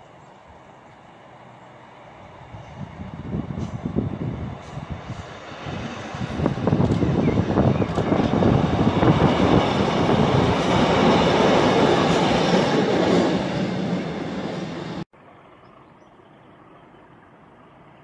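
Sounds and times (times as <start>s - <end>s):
diesel train passing: 0.0s - 18.0s
faint outdoor background: 0.0s - 18.0s.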